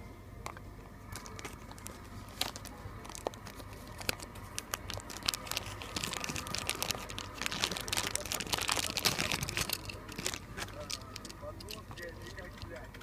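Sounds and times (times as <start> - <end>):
sharp clicks and crackles: 0.5 - 13.0
packaging crinkling and rustling: 1.1 - 12.9.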